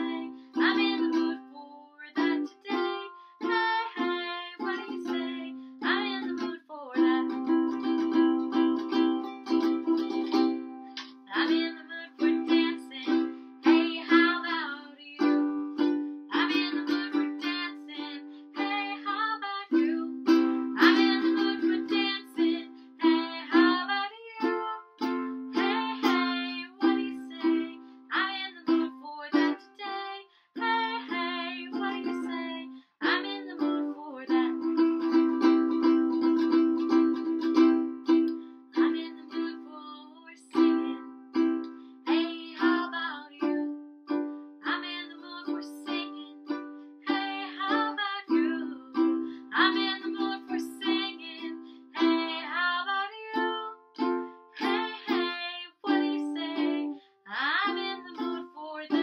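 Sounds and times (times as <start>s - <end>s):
woman singing: 0.0s - 41.1s, 42.0s - 43.8s, 44.6s - 59.0s
ukulele strumming: 0.0s - 59.0s.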